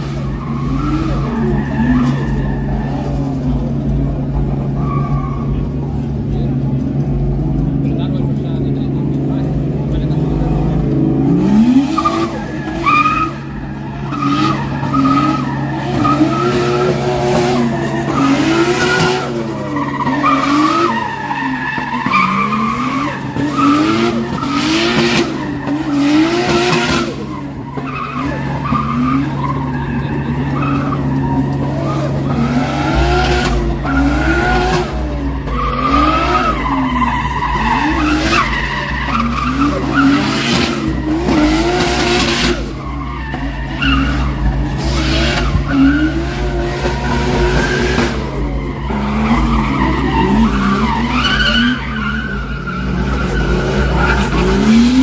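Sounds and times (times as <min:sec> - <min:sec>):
car engine revving: 0:00.0 - 0:55.0
tyres squealing on tarmac: 0:00.0 - 0:55.0.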